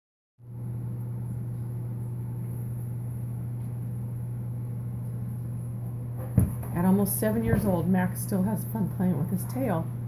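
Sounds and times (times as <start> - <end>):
low mechanical hum: 0.4 - 10.0.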